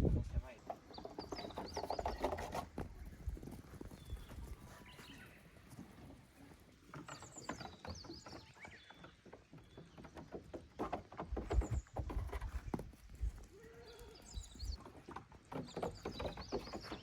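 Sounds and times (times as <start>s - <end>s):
small birds chirping: 0.4s - 17.0s
goat hooves clattering: 0.5s - 17.0s.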